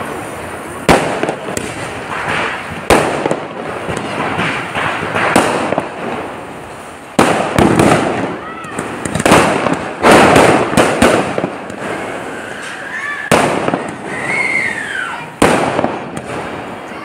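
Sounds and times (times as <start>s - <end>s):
crackling hiss of fireworks: 0.0s - 17.0s
firework bangs: 0.0s - 17.0s.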